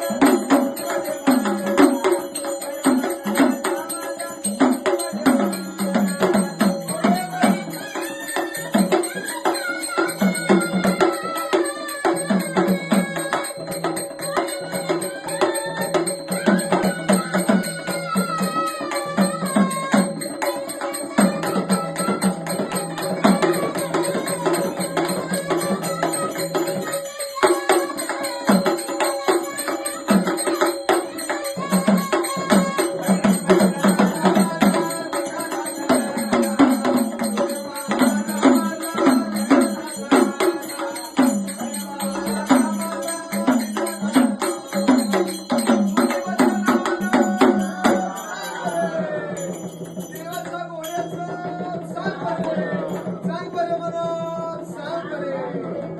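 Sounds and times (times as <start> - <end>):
hand percussion beat: 0.0 - 55.9.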